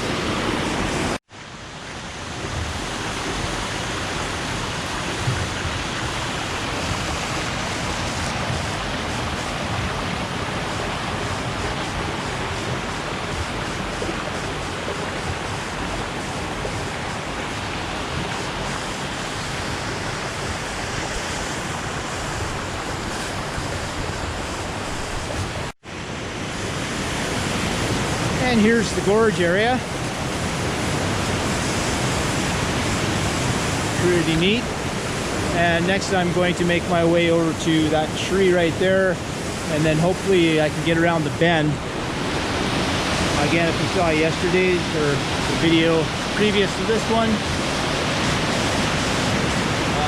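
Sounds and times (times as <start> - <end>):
waterfall and creek rushing: 0.0 - 50.0.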